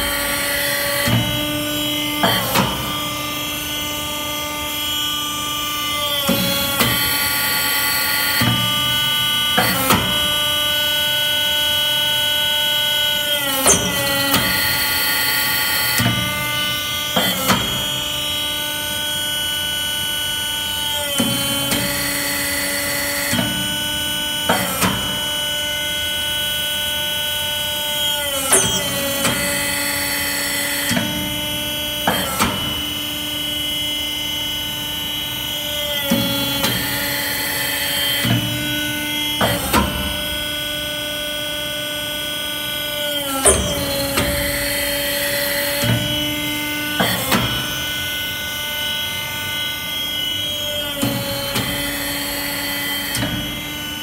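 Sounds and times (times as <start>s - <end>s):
hydraulic press motor whine: 0.0s - 54.0s.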